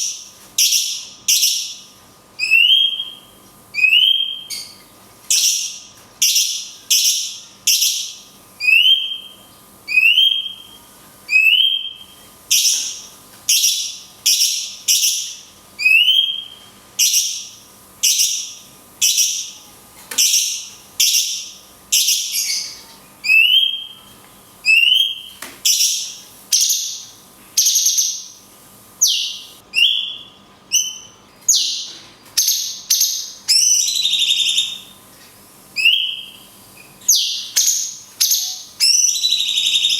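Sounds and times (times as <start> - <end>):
bulbul whistled calls: 2.4 - 19.6, 20.2 - 24.0, 24.6 - 28.4, 29.0 - 35.0, 35.8 - 39.9.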